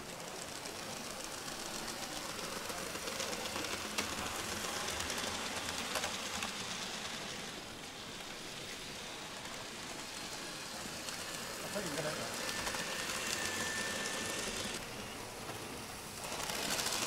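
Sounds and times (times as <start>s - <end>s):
model train rumbling on track: 0.0s - 17.0s.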